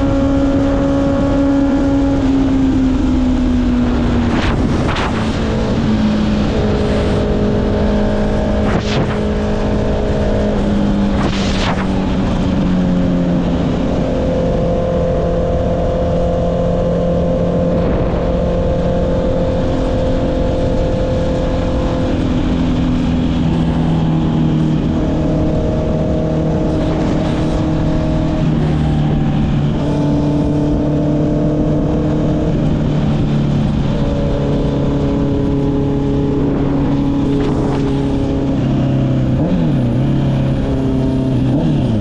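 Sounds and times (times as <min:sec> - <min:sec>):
motorcycle engine while riding: 0:00.0 - 0:42.0
wind noise: 0:00.0 - 0:42.0.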